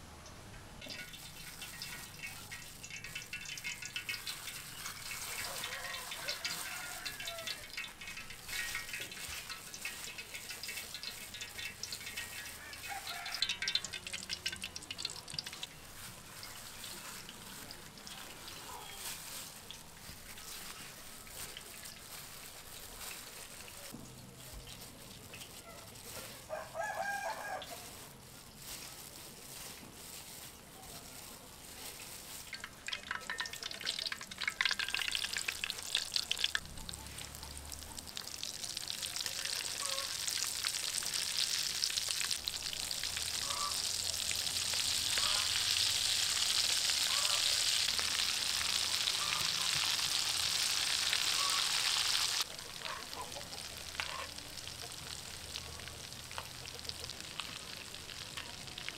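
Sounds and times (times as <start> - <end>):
food deep-frying in oil: 0.0 - 58.9
crackles and clicks: 0.5 - 58.9.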